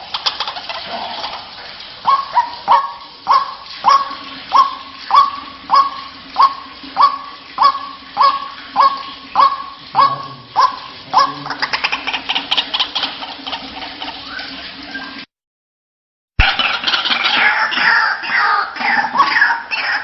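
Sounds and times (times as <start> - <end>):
waterhen calling harsh notes: 0.0 - 15.3, 16.4 - 20.0.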